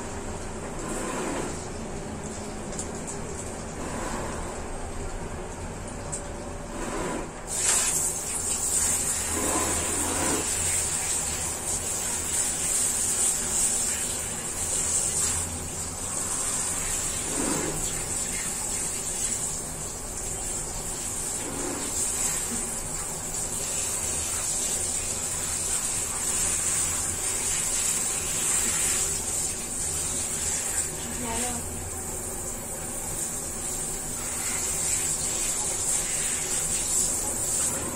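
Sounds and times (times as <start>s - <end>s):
water spraying from shower head: 6.7s - 37.9s.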